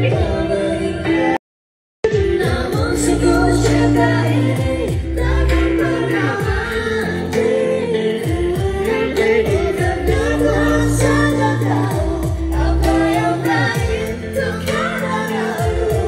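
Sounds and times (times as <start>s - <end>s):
pop song with vocals: 0.0s - 1.4s, 2.0s - 16.0s.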